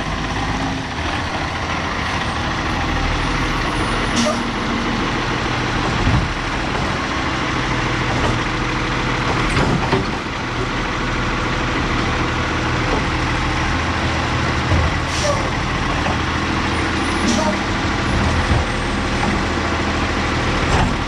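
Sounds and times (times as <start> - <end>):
garbage truck engine running: 0.0 - 21.0.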